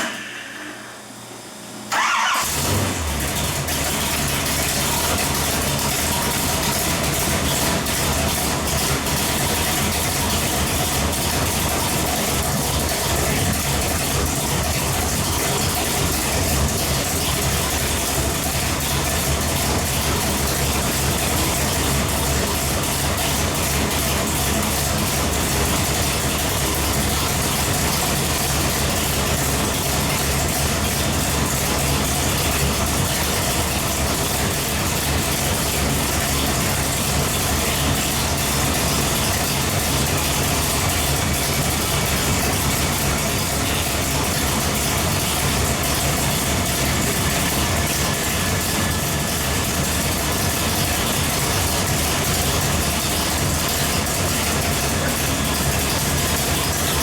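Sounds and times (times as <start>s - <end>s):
boat engine running steadily: 3.2s - 57.0s.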